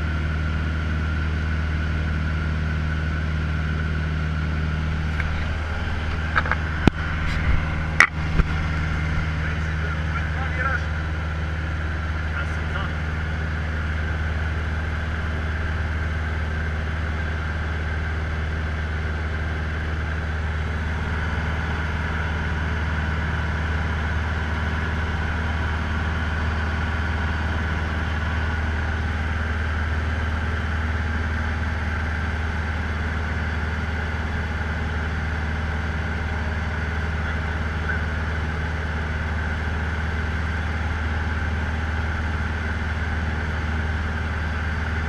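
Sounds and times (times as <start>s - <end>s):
faint engine whine: 0.0s - 45.0s
propeller plane engine drone: 0.0s - 45.0s.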